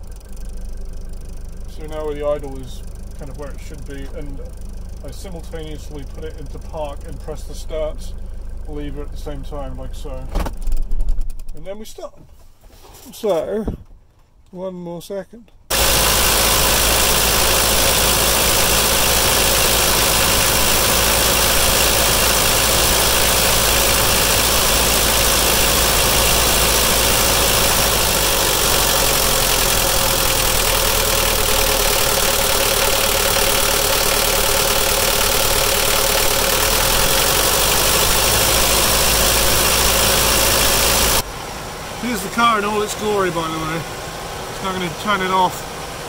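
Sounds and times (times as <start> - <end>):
diesel engine idling: 0.0 - 10.3, 15.7 - 46.0.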